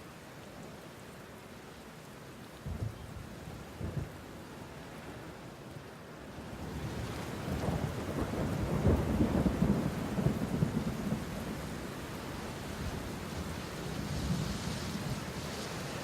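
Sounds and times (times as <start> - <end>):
steady rain-like hiss: 0.0 - 16.0.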